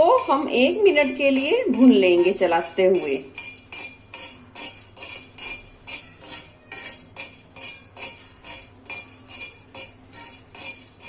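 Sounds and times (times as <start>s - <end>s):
spoon clinking against pan: 0.0s - 11.0s.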